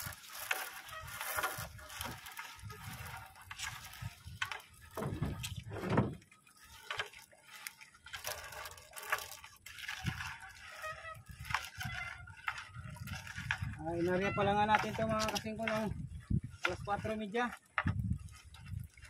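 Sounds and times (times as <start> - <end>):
fishing net rustling and knocking: 0.0 - 19.0
water dripping and splashing: 0.0 - 19.0.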